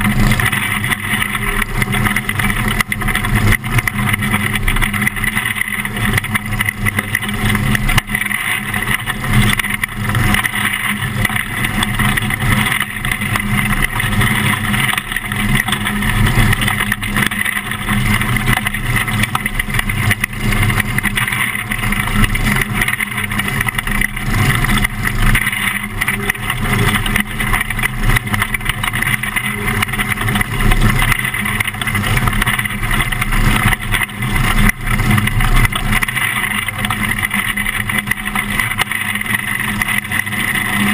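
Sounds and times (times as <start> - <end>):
race car engine from cockpit: 0.0 - 40.9.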